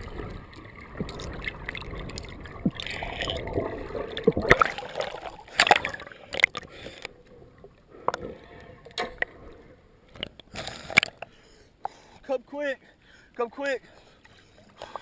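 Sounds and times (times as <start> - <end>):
water splashing and sloshing: 0.0 - 12.3.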